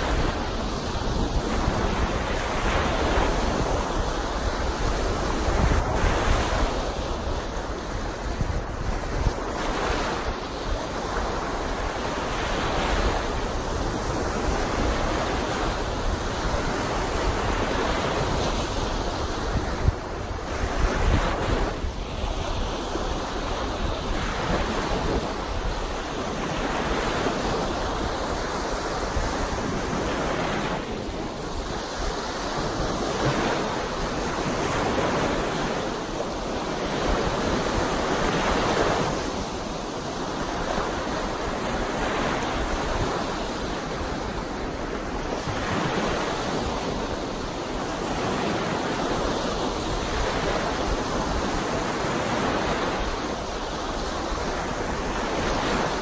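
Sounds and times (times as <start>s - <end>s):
waves washing up a sandy shore: 0.0s - 56.0s
wind buffeting the microphone: 0.0s - 56.0s.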